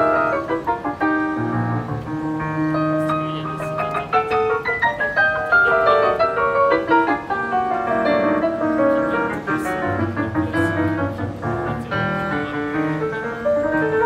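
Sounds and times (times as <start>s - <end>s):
fast piano playing: 0.0s - 14.0s.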